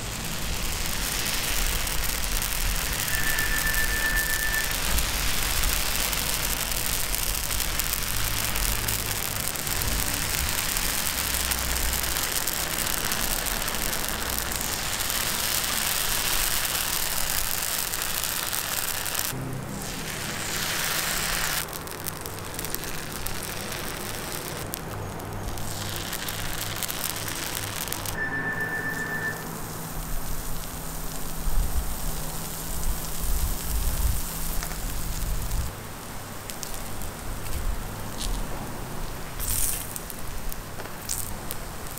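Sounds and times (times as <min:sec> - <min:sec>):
batter sizzling on griddle: 0:00.0 - 0:41.9.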